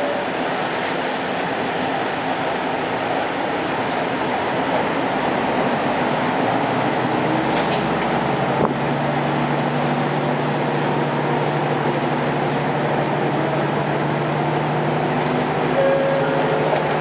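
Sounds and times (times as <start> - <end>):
engine hum: 0.0 - 17.0
wheel and rail noise: 0.0 - 17.0.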